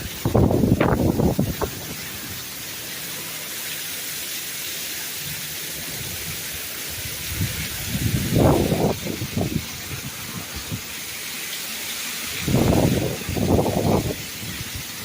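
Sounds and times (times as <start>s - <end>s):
heavy rain downpour: 0.0s - 15.0s.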